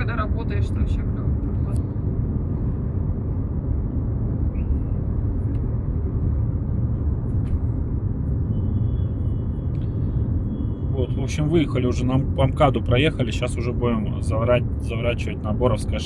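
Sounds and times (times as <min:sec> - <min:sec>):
car cabin road and engine noise: 0:00.0 - 0:16.0.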